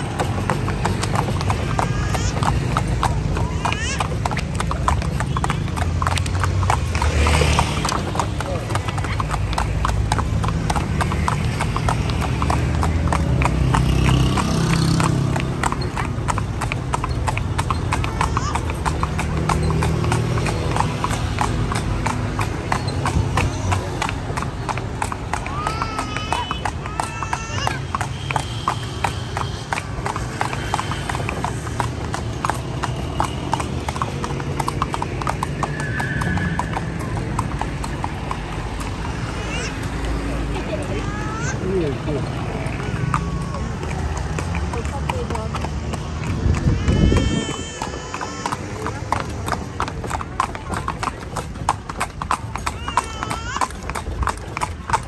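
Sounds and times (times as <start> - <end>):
carriage rolling rumble: 0.0 - 55.0
horse hooves clip-clopping on pavement: 0.0 - 55.0.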